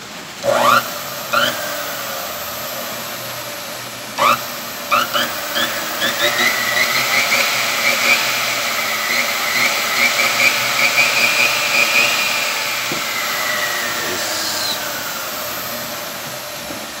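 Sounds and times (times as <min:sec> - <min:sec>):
saw motor whining: 0:00.0 - 0:17.0.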